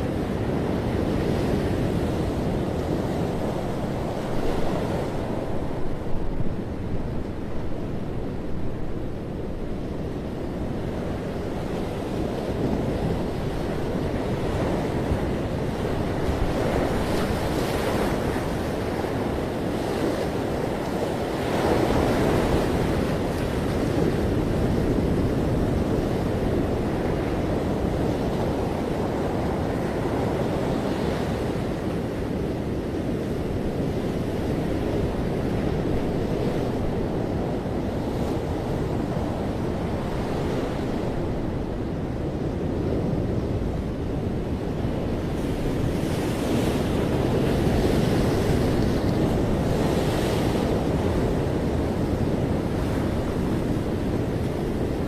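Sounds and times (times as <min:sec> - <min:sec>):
ocean surf breaking: 0:00.0 - 0:55.0
wind rumble on microphone: 0:00.0 - 0:55.0.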